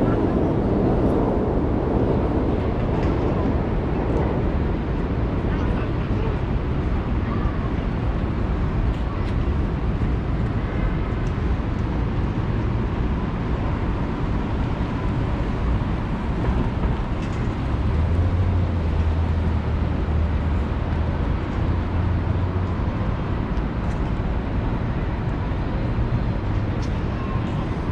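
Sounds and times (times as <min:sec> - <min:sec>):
street traffic rumble: 0:00.0 - 0:27.9
wind on microphone: 0:00.0 - 0:27.9.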